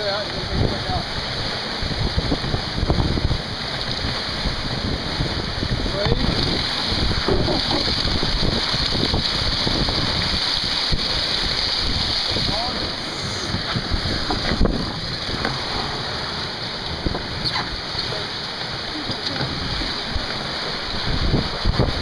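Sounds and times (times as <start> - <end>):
water splashing along hull: 0.0 - 22.0
wind buffeting microphone: 0.0 - 22.0.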